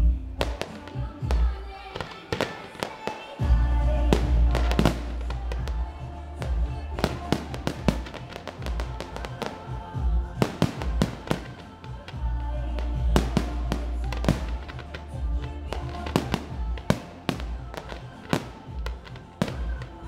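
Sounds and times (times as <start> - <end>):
music: 0.0 - 20.0
fireworks bangs and crackles: 0.4 - 20.0.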